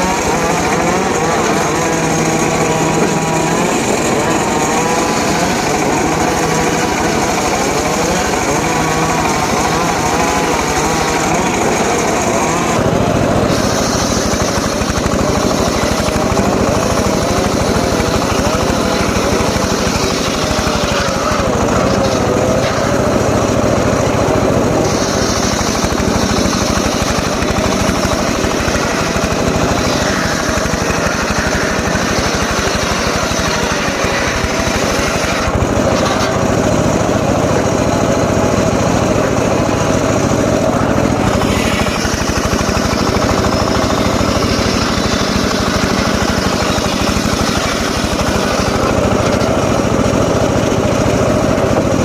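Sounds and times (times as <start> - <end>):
engine-driven saw running: 0.0 - 52.0.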